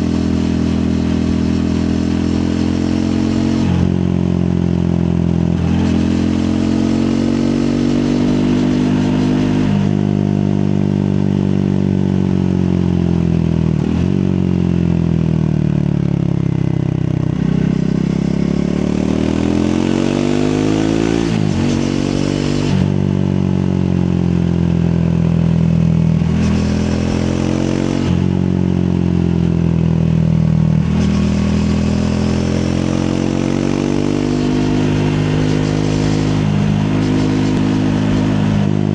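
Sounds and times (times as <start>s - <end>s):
wind and road noise: 0.0s - 15.4s, 16.1s - 38.9s
motorcycle engine revving: 0.0s - 38.9s.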